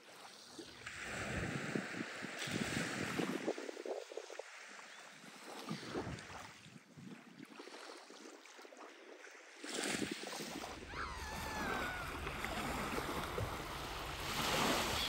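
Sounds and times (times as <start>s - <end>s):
small waves lapping on shore: 0.0s - 15.0s.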